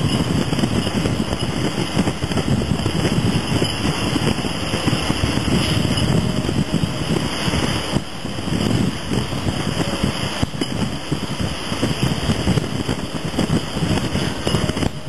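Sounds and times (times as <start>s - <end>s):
truck engine driving: 0.0s - 15.0s
wind rumble on microphone: 0.0s - 15.0s.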